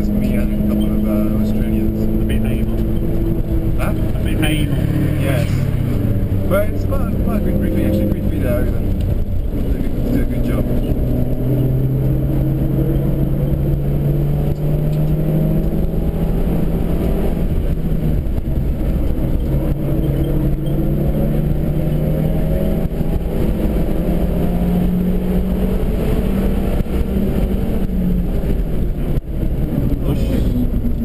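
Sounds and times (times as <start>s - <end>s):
car engine accelerating: 0.0s - 31.0s
road and wind noise: 0.0s - 31.0s.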